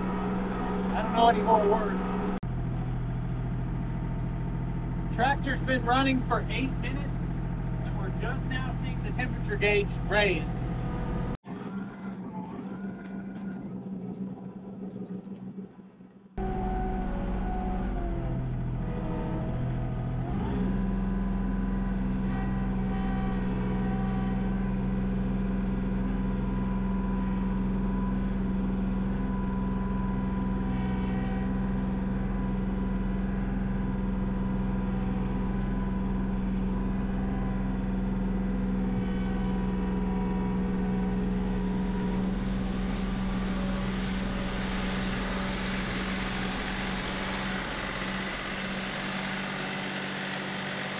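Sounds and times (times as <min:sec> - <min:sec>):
tractor diesel engine running: 0:00.0 - 0:11.4, 0:16.4 - 0:50.9.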